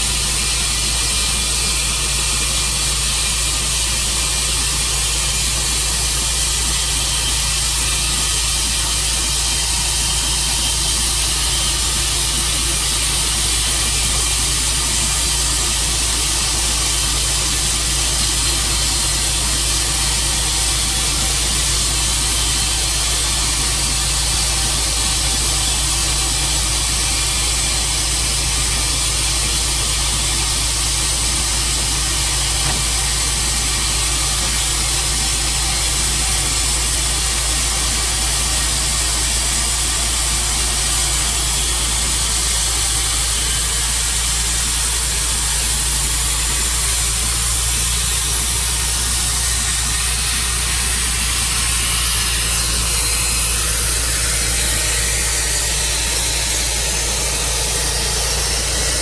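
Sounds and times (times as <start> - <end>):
sawmill engine and blade running: 0.0 - 59.0.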